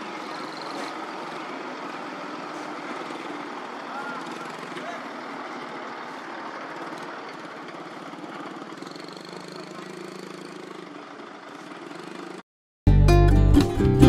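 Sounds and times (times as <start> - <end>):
heavy diesel engines running: 0.0 - 12.4.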